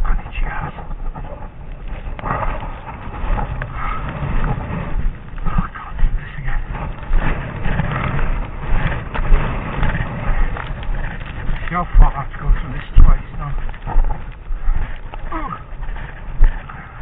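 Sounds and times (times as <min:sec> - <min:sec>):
footsteps crunching in snow: 0:00.0 - 0:17.0
wind buffeting microphone: 0:00.0 - 0:17.0.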